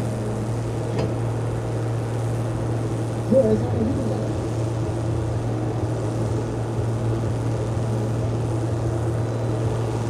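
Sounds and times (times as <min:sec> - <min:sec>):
tractor diesel engines idling: 0:00.0 - 0:10.0.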